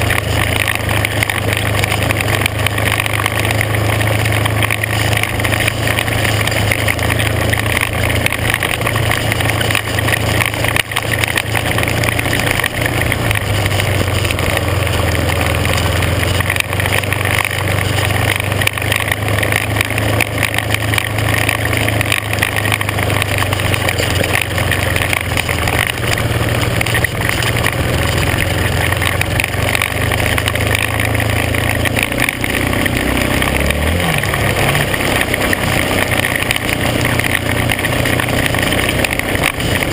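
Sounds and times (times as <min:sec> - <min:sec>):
vehicle engine running: 0:00.0 - 0:39.9
wind and tyre rushing noise: 0:00.0 - 0:39.9.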